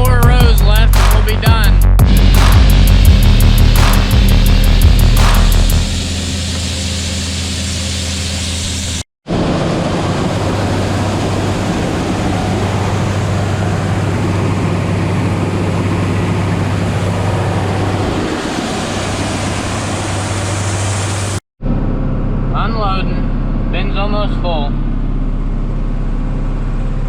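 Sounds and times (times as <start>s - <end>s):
heavy rushing noise: 0.0s - 25.0s
diesel engine humming: 0.0s - 27.0s.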